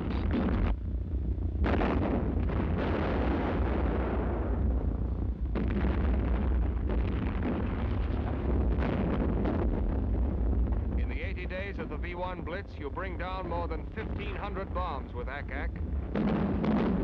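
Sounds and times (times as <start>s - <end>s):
anti-aircraft guns firing: 1.6s - 4.8s, 5.5s - 17.0s.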